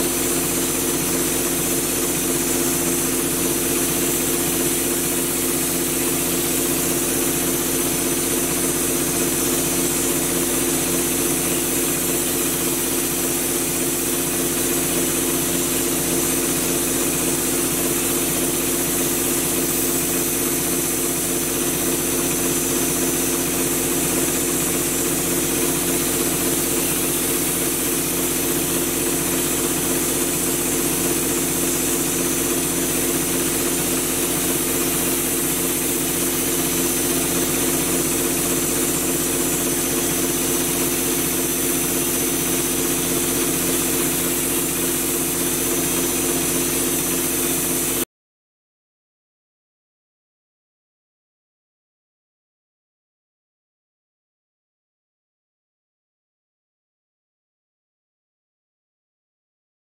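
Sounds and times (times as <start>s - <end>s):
spray gun hissing: 0.0s - 48.0s
air compressor running: 0.0s - 48.1s.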